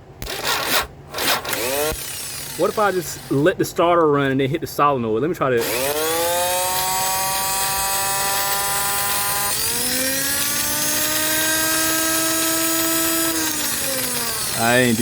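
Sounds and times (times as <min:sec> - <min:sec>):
starter motor whining: 0:00.2 - 0:03.5, 0:05.6 - 0:15.0.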